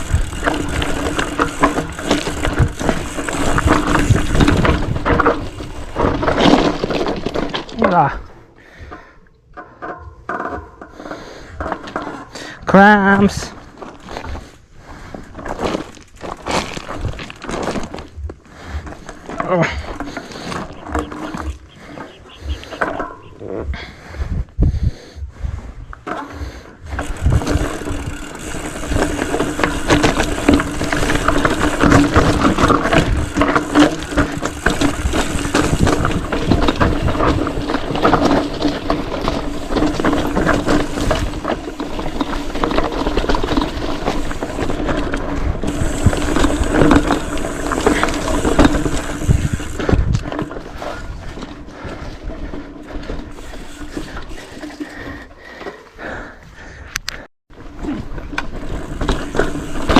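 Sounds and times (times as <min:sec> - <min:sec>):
mountain bike rattling on dirt trail: 0:00.0 - 0:59.9.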